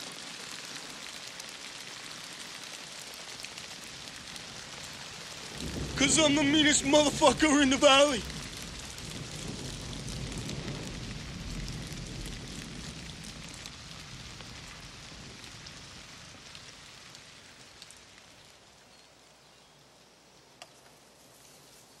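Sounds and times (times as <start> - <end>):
rain pouring: 0.0 - 20.0.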